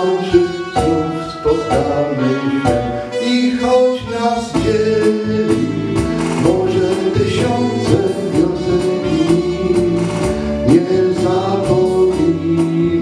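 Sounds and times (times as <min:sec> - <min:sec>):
instrumental tango backing track: 0:00.0 - 0:13.0
man singing into a microphone: 0:00.0 - 0:13.0.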